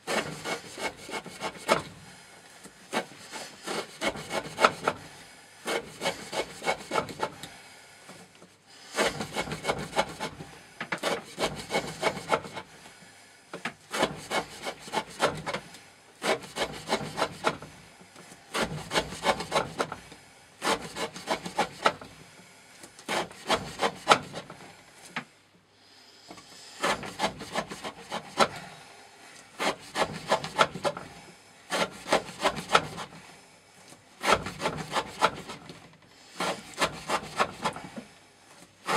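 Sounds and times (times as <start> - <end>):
knife sawing through rope: 0.0 - 7.6, 8.7 - 13.0, 13.8 - 22.2, 22.9 - 25.2, 26.3 - 38.9.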